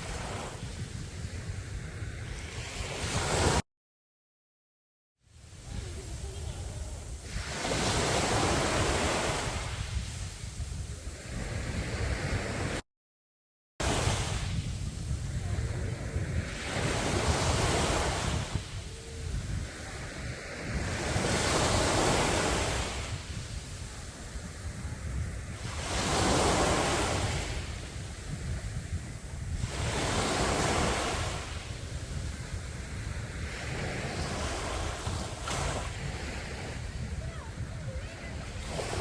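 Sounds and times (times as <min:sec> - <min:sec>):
sea waves breaking on a beach: 0:00.0 - 0:03.6, 0:05.3 - 0:12.8, 0:13.8 - 0:39.0.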